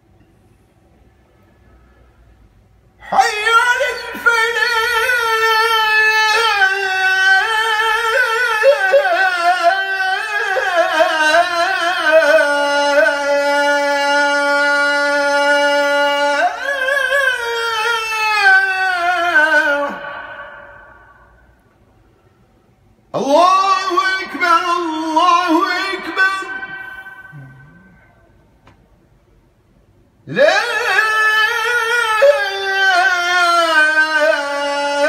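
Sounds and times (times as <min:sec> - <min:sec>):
man chanting prayer with echo: 0:03.0 - 0:21.5, 0:23.2 - 0:28.3, 0:30.3 - 0:35.0.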